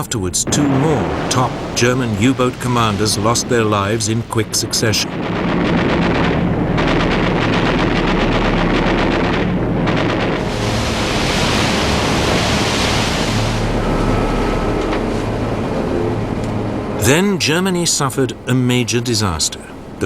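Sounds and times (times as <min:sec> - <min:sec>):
steady low drone: 0:00.0 - 0:18.5
rushing sea: 0:00.0 - 0:20.0
wind: 0:00.0 - 0:20.0.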